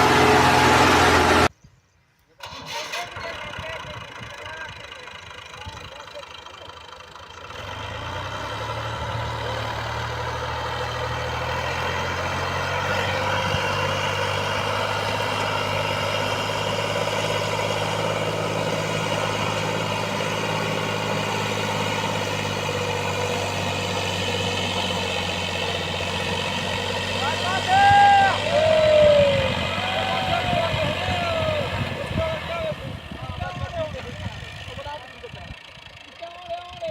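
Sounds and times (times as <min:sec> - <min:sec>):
diesel engine running: 0:00.0 - 0:01.5, 0:02.4 - 0:36.9.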